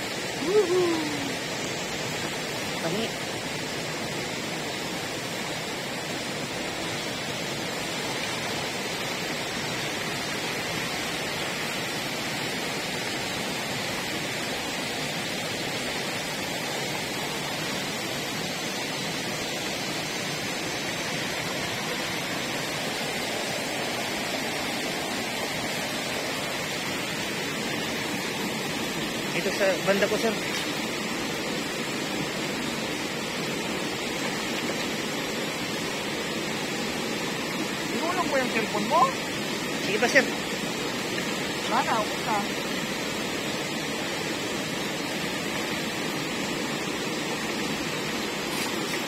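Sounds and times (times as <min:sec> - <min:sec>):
river water rippling over rocks: 0:00.0 - 0:49.0.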